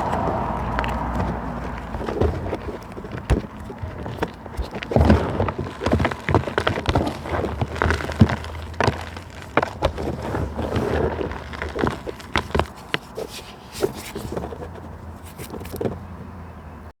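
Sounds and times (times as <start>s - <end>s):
dry plant material crunching: 0.0s - 15.8s.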